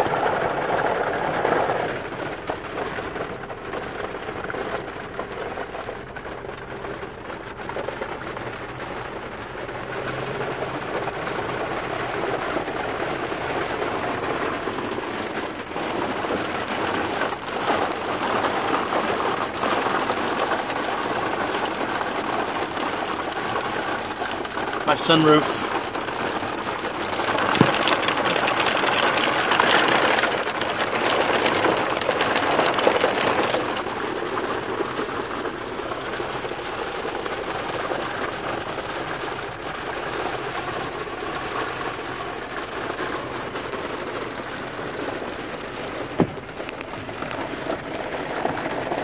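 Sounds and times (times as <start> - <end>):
rain hissing on truck: 0.0 - 49.0
raindrops hitting roof and glass: 0.0 - 49.0.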